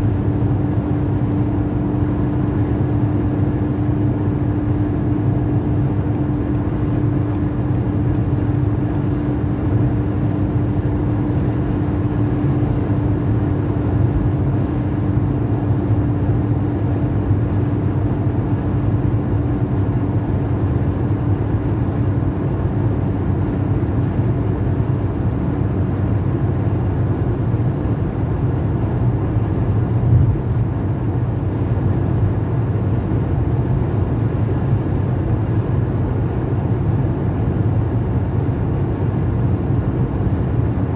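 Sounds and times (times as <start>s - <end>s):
car road noise inside cabin: 0.0s - 40.9s.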